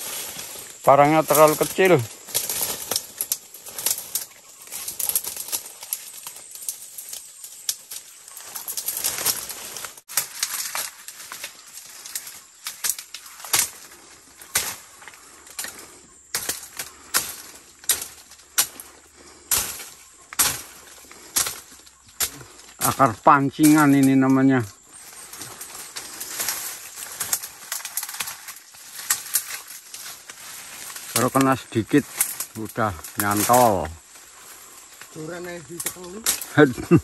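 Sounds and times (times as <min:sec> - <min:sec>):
footsteps crunching dry leaves: 0:00.0 - 0:37.0
undergrowth rustling: 0:00.0 - 0:37.0
sticks snapping: 0:01.3 - 0:23.0, 0:25.3 - 0:34.0, 0:35.8 - 0:36.6.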